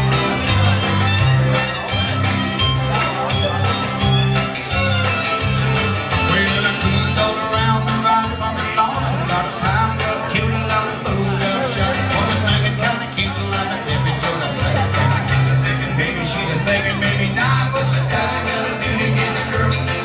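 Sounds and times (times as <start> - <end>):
acoustic guitars strumming: 0.0 - 20.0
bass alternating two notes: 0.0 - 20.0.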